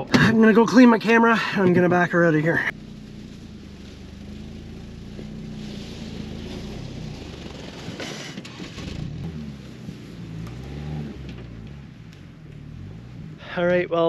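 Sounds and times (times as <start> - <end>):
truck engine revving: 1.7 - 14.0.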